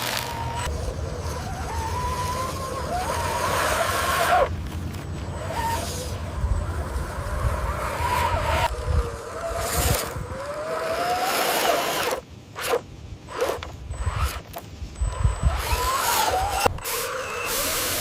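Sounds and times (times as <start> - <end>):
electric motor and gears whining: 0.0 - 18.0
whirring and scraping: 0.0 - 18.0.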